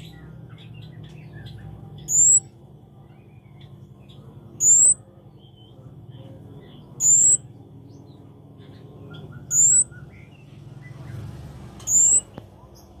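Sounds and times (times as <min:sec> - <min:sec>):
songbird high-pitched rising calls: 0:00.0 - 0:05.8, 0:06.7 - 0:13.0
faint bird chirps: 0:00.0 - 0:13.0.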